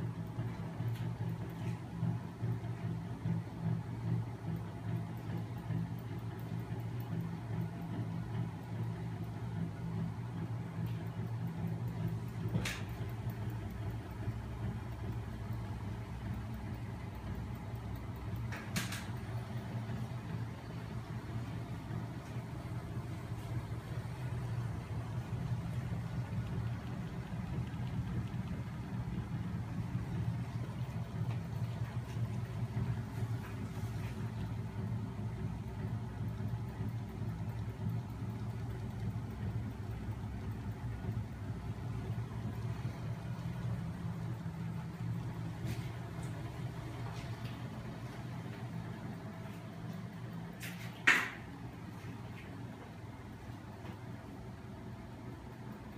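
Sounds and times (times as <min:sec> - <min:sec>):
machine humming: 0:00.0 - 0:55.9.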